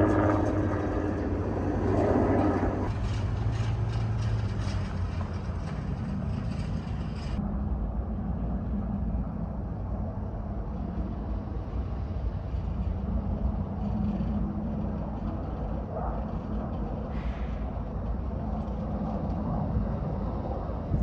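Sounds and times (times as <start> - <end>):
low rumble of distant engines: 0.0 - 21.0.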